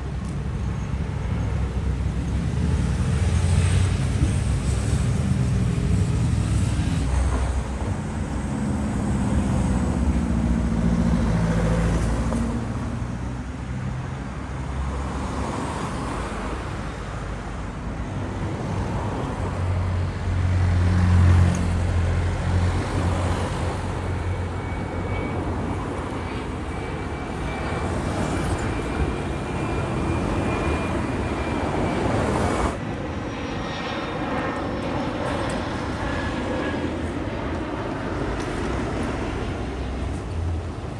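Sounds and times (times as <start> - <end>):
aircraft engines rumbling: 0.0 - 40.9.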